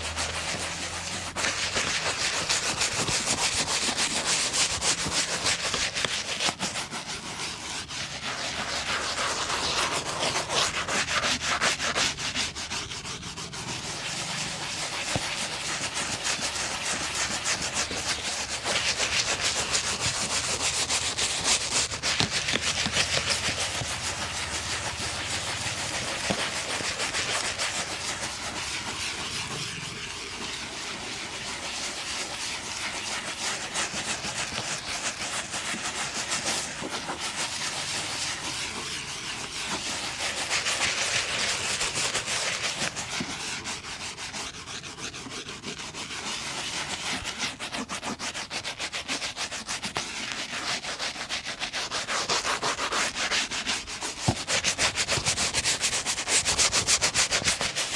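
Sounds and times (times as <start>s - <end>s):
brush rubbing leather shoe: 0.0s - 57.9s.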